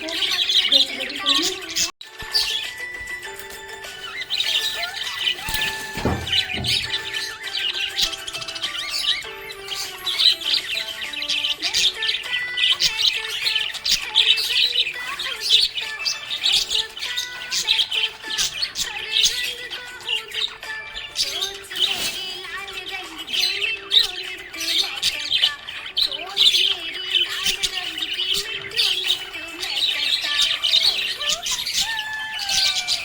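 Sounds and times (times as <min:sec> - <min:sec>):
background music: 0:00.0 - 0:33.0
budgerigars chirping and chattering: 0:00.0 - 0:33.0.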